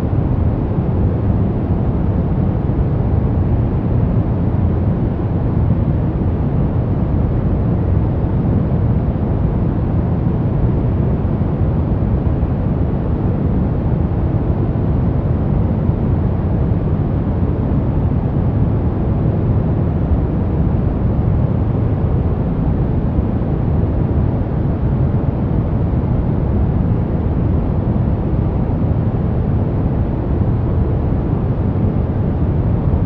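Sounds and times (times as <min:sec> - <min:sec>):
deep rumbling steady noise: 0:00.0 - 0:33.0.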